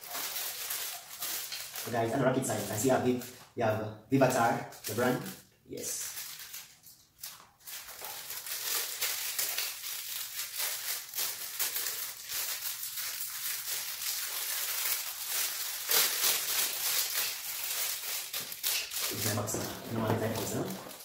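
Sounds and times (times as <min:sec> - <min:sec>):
plastic packaging crinkling: 0:00.0 - 0:03.6, 0:04.2 - 0:21.0.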